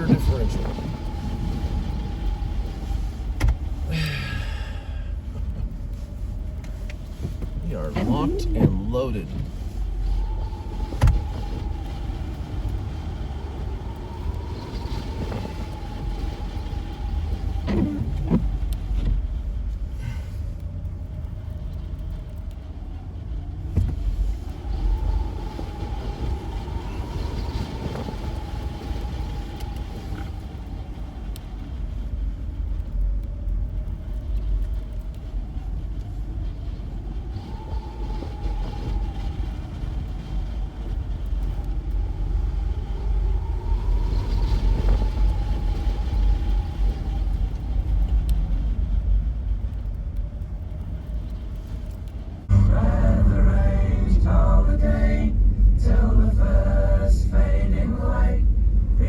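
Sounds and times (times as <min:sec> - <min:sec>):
drivetrain whining: 0:00.0 - 0:59.0
low engine rumble: 0:00.0 - 0:59.0.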